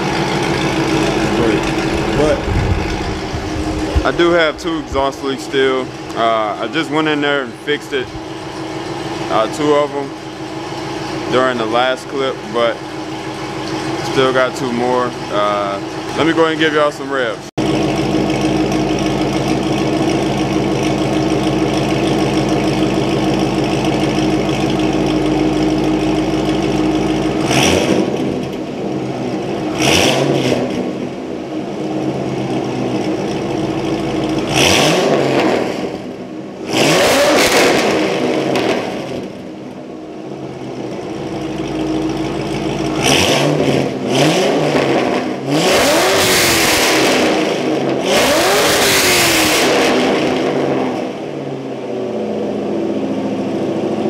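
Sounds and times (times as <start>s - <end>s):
engine revving: 0.0s - 18.8s, 19.4s - 39.6s, 40.3s - 51.6s
car engine idling: 0.0s - 54.0s.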